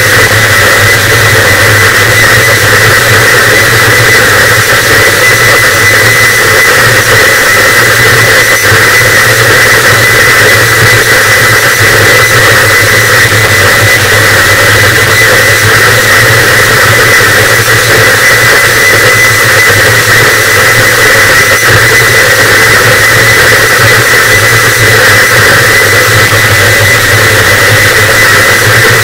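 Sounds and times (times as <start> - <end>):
distorted static noise: 0.0 - 29.0
low drone: 0.0 - 29.0.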